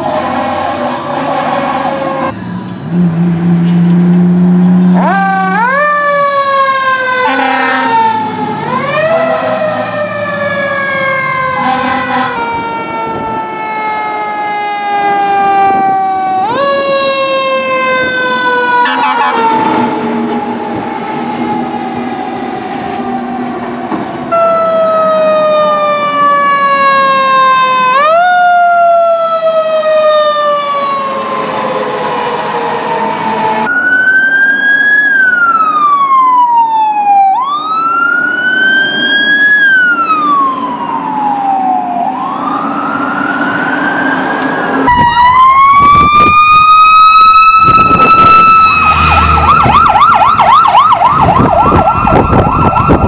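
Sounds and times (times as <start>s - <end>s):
fire truck siren wailing: 0.0s - 53.0s
fast siren yelp: 4.9s - 23.5s, 24.3s - 53.0s.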